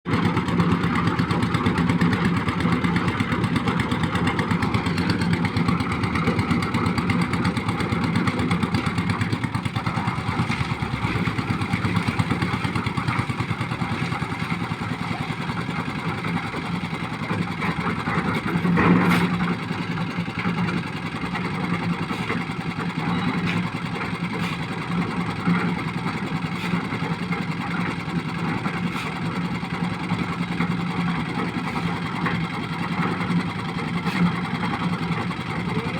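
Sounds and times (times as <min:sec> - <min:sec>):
concrete mixer engine running: 0:00.1 - 0:35.9.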